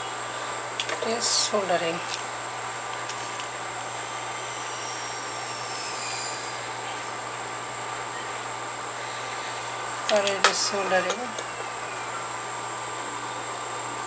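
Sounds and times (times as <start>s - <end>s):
low electrical hum: 0.0s - 14.0s
steady hiss: 0.0s - 14.0s.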